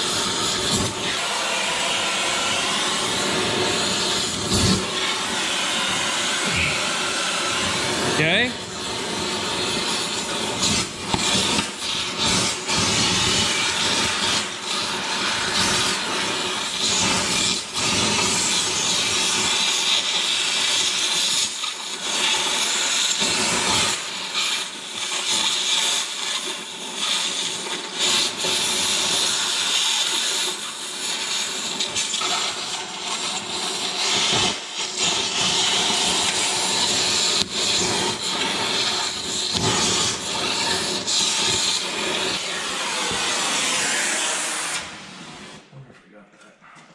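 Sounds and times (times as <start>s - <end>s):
cutting torch hissing: 0.0s - 45.7s.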